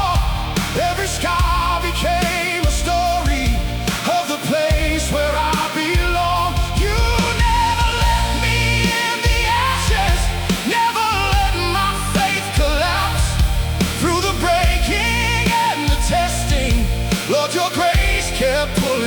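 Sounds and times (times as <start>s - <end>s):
full-band worship song: 0.0s - 19.0s.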